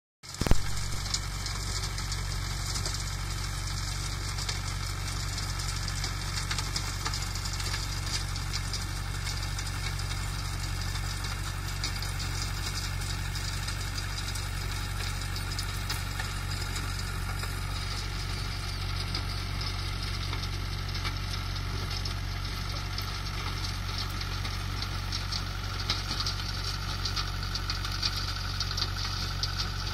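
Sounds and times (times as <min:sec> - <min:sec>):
tractor diesel engine running: 0:00.2 - 0:29.9.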